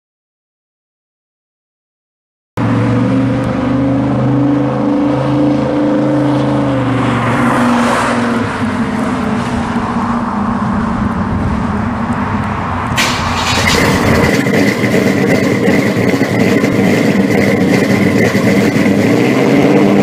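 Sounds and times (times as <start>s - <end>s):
car engine rumbling past: 2.6s - 20.0s
road noise: 2.6s - 20.0s.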